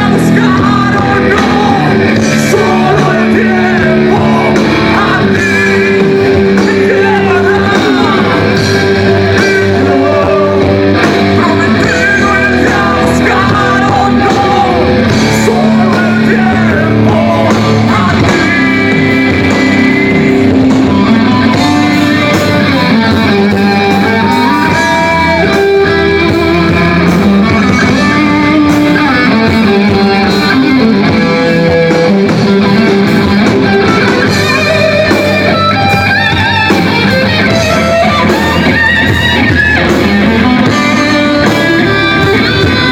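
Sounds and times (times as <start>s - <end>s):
electric guitar melody: 0.0s - 42.9s
rock band playing live: 0.0s - 42.9s.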